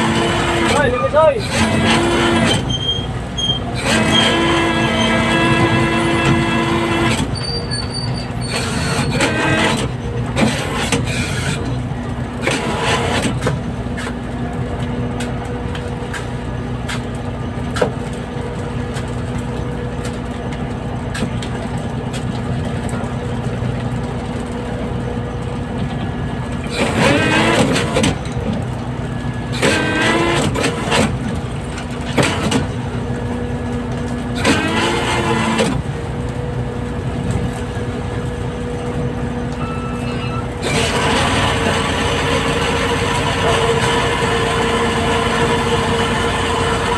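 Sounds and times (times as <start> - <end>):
boat engine droning: 0.0 - 17.7, 22.8 - 46.9.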